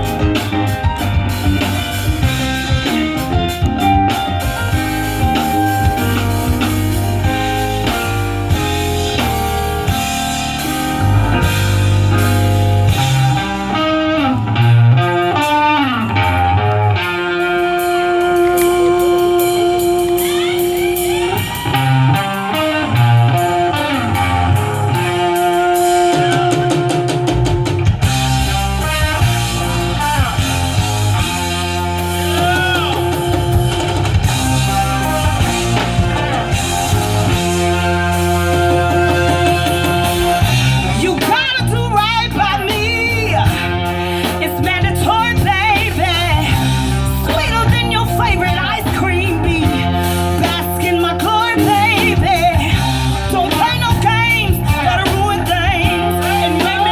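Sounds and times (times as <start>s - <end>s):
guitar with bent notes: 0.0s - 56.9s
live band playing: 0.0s - 56.9s.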